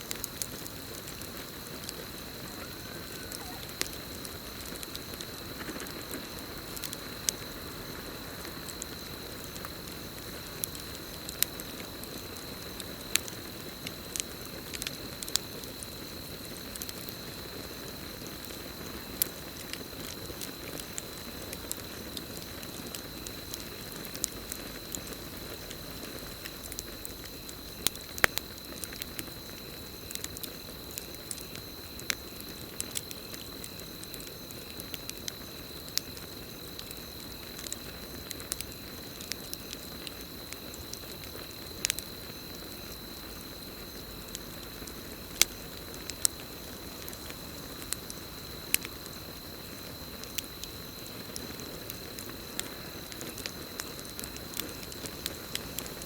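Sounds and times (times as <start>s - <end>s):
campfire crackling: 0.0s - 56.0s
cricket trill: 0.0s - 56.0s.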